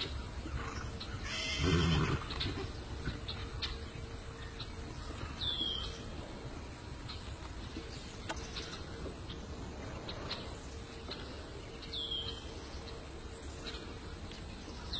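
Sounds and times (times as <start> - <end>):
birds calling: 0.0 - 14.9
low outdoor rumble: 0.0 - 14.9.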